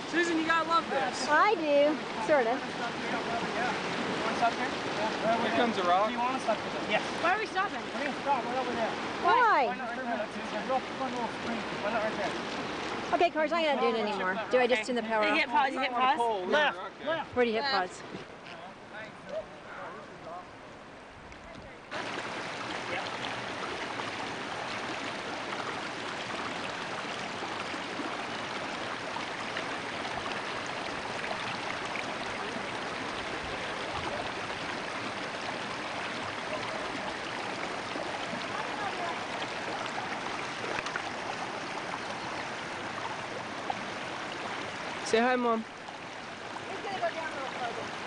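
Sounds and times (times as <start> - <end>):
creek water running over stones: 0.0 - 48.0.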